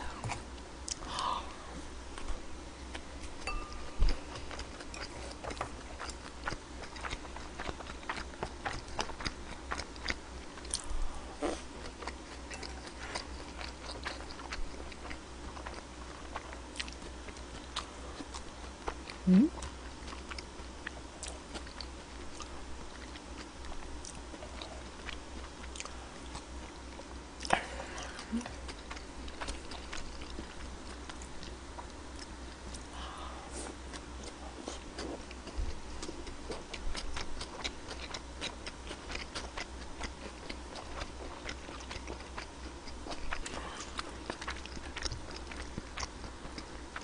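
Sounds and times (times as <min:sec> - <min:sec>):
close chewing with mouth sounds: 0:00.0 - 0:47.0.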